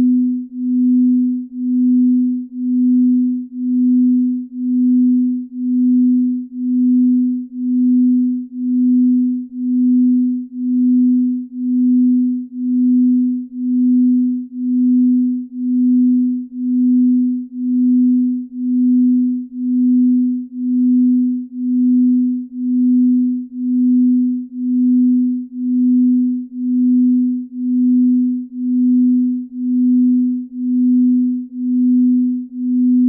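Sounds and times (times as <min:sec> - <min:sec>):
steady low pure tone: 0:00.0 - 0:33.0.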